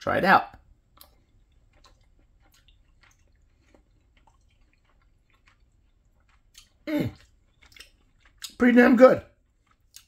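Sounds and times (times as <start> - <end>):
chewing with wet mouth clicks: 0.8 - 8.6, 9.3 - 10.0.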